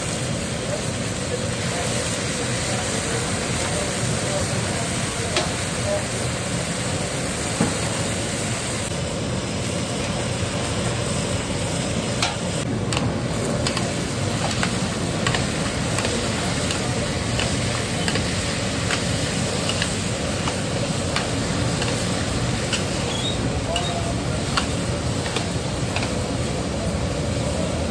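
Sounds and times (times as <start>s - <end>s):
potatoes sizzling in oil: 0.0s - 27.9s.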